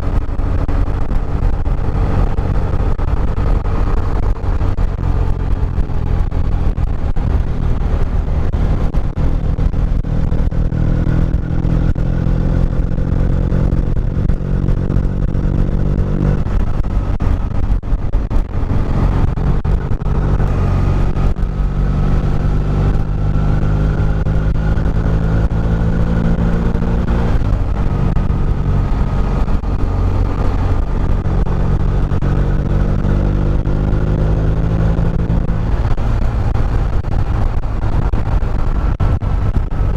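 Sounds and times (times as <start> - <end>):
low road rumble: 0.0 - 39.9
motorcycle engine accelerating: 0.0 - 39.9.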